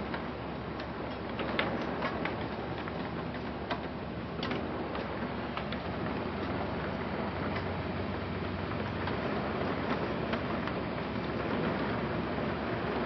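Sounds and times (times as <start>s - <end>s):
heavy rain hissing: 0.0s - 13.0s
rain ticking on window glass: 0.0s - 13.0s.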